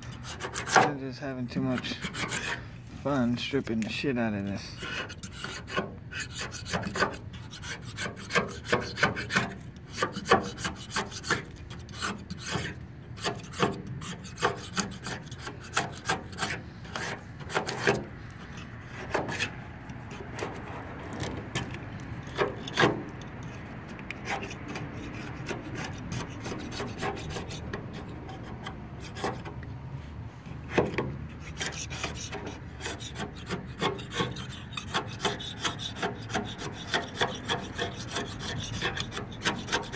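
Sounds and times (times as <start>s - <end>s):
razor blade scraping paint: 0.0s - 1.0s, 1.6s - 2.6s, 4.8s - 29.6s, 30.6s - 39.9s.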